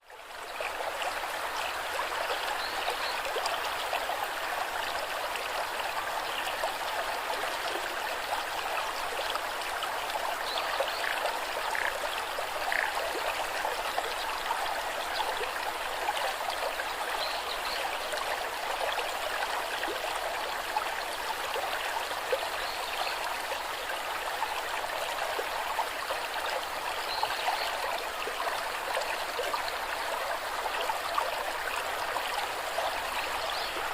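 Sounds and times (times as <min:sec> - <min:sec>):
stream babbling over rocks: 0:00.0 - 0:33.9.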